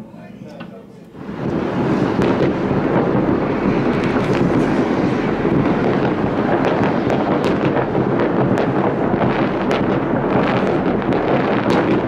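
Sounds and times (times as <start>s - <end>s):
fireworks and firecrackers barrage: 1.2s - 12.0s.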